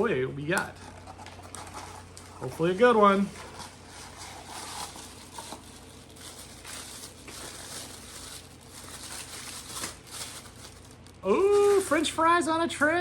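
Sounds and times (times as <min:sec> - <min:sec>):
packaging crinkling and rustling: 0:00.5 - 0:12.8.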